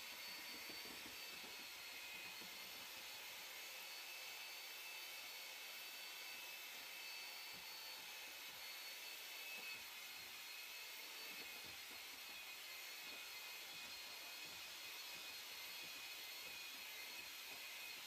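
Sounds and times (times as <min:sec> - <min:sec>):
electric drill mixing slurry: 0:00.0 - 0:18.0.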